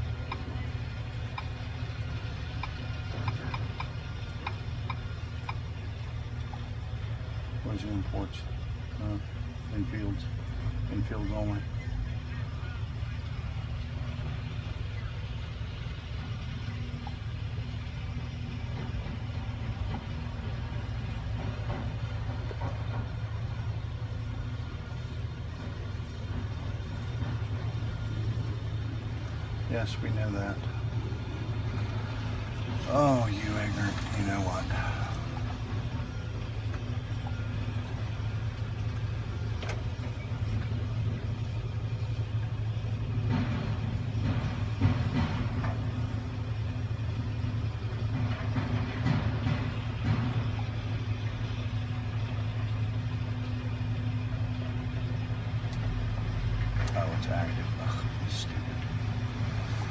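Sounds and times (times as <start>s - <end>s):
excavator diesel engine idling: 0.0s - 59.9s.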